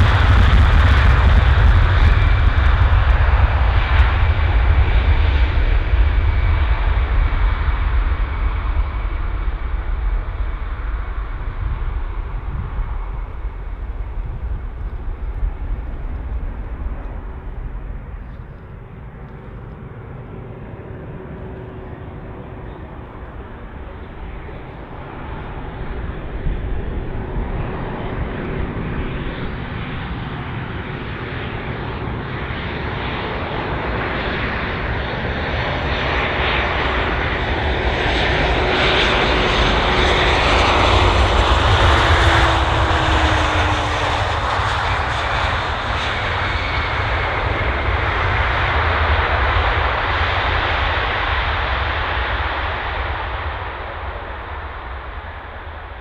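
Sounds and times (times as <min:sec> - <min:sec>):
jet airliner passing: 0:00.0 - 0:56.0.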